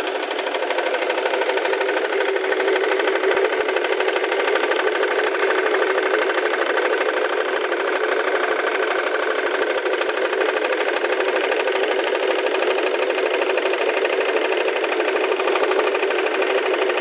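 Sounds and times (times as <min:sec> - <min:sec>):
diesel engine idling with knocking: 0:00.0 - 0:17.0.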